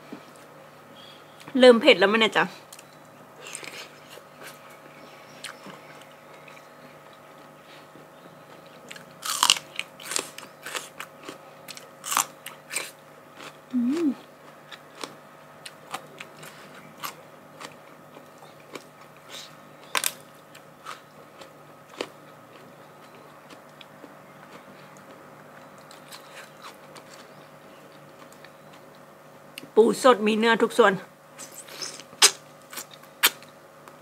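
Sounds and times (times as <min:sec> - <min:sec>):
person chewing crunchy food: 0:02.8 - 0:29.1, 0:31.4 - 0:33.6.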